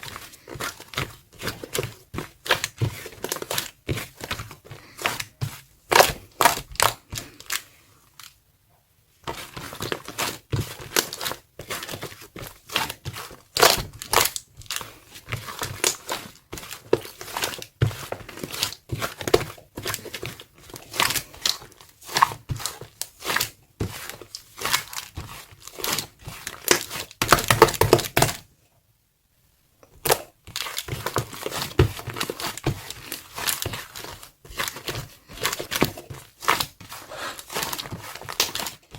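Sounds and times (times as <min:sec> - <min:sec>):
slime squishing with sticky pops: 0:00.0 - 0:08.4, 0:09.3 - 0:28.5, 0:29.8 - 0:38.9.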